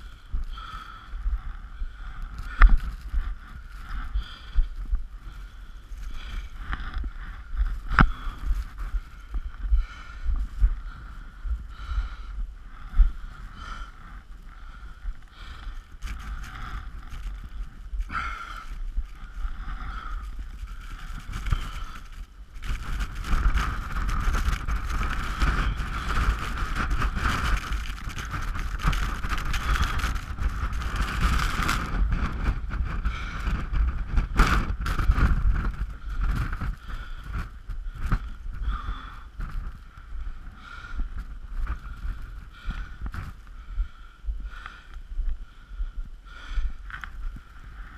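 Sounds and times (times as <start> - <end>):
strong wind buffeting microphone: 0.0 - 47.9.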